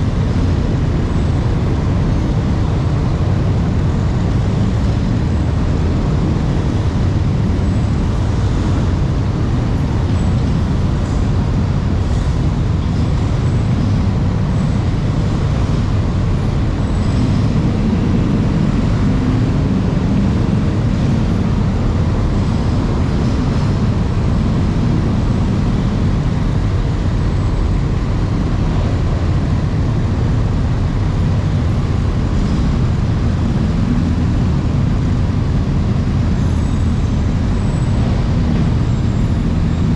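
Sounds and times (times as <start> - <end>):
vehicle engines rumbling: 0.0 - 39.9.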